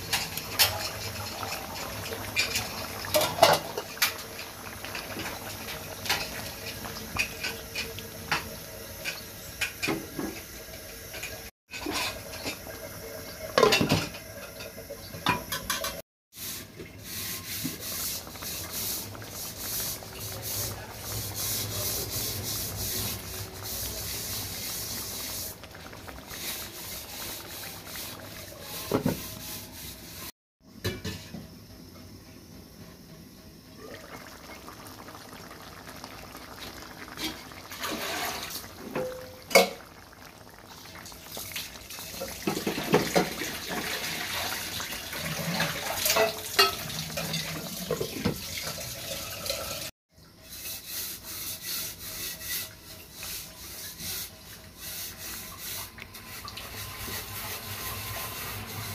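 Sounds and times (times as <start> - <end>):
curry bubbling in a pan: 0.1 - 8.5, 16.4 - 30.3, 33.8 - 58.9.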